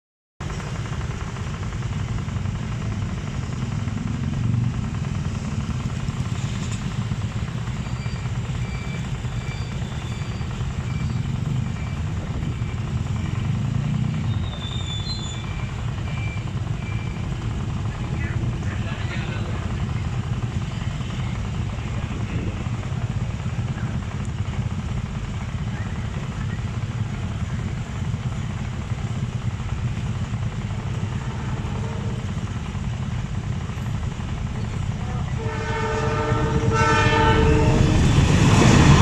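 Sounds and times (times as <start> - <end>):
traffic: 0.4 - 39.0
train rumble: 0.4 - 39.0.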